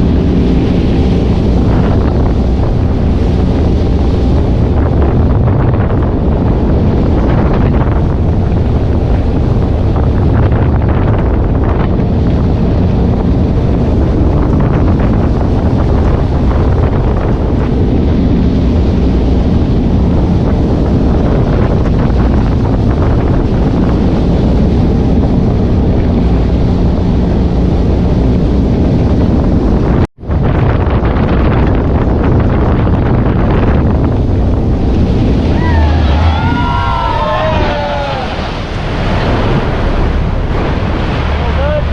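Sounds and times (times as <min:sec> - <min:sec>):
jet ski engine drone: 0:00.0 - 0:41.9
water rushing: 0:00.0 - 0:41.9
wind buffeting microphone: 0:00.0 - 0:41.9.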